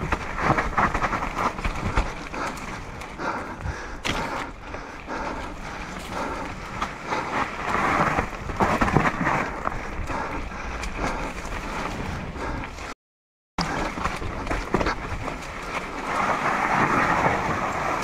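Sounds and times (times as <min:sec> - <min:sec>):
bike clicks and rattles: 0:00.0 - 0:12.9, 0:13.6 - 0:18.0
bike tyres rolling on dirt: 0:00.0 - 0:13.0, 0:13.6 - 0:18.0.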